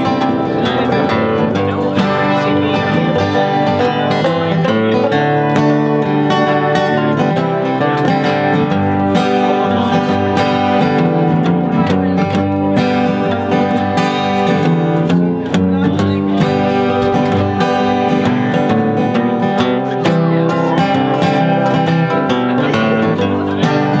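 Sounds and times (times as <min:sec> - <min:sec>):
acoustic guitars strumming chords: 0:00.0 - 0:24.0.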